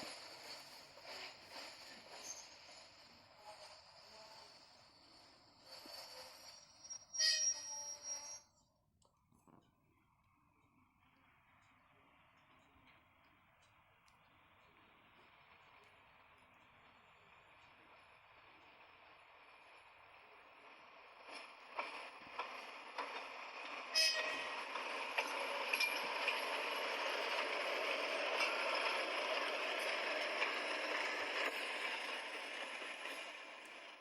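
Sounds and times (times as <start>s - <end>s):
train rolling past: 0.0s - 8.7s, 11.0s - 34.0s.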